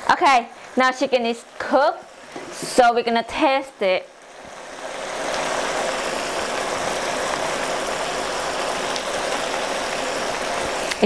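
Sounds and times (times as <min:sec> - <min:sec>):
stir fry sizzling and bubbling in a wok: 0:00.0 - 0:11.0.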